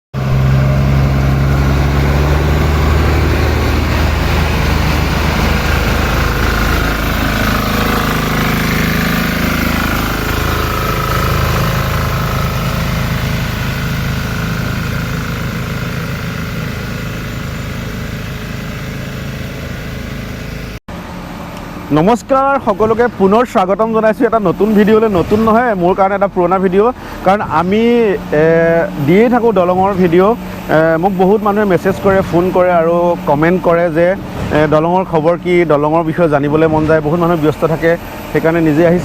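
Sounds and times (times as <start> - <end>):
engine humming: 0.2 - 39.0.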